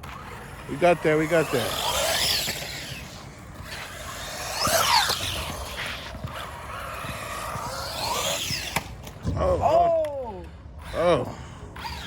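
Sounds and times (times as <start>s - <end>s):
rc truck electric motors whining: 0.0s - 9.2s, 10.7s - 12.0s.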